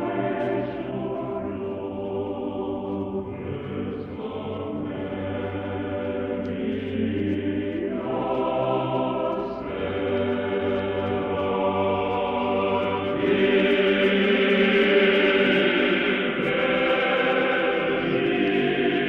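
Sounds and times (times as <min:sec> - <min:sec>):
church choir singing chords: 0:00.0 - 0:19.0.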